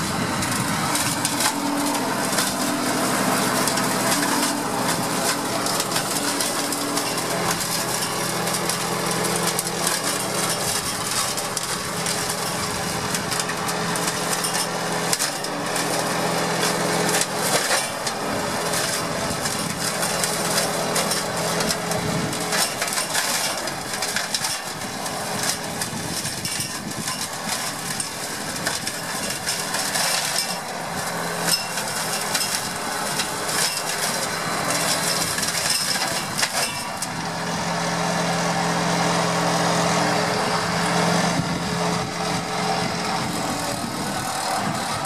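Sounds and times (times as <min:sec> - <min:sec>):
hedge cutter humming: 0:00.0 - 0:45.0
tractor engine running under load: 0:00.0 - 0:45.0.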